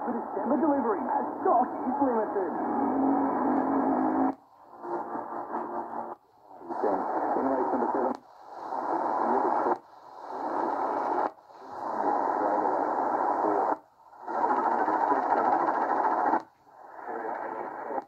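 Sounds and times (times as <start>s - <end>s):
radio tuning across stations: 0.0s - 18.0s.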